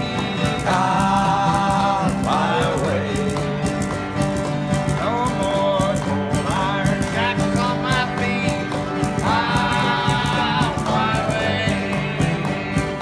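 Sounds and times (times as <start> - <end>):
acoustic guitars strumming: 0.0 - 13.0
mandolin melody: 0.0 - 13.0.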